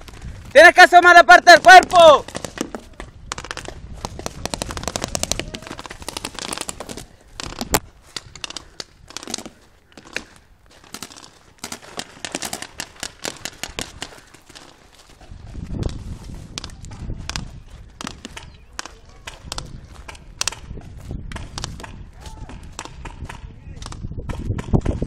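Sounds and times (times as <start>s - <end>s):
sharp crack: 0.0s - 14.9s, 15.8s - 20.7s, 21.3s - 25.0s
paintball markers firing pops: 1.6s - 15.2s, 15.8s - 25.0s.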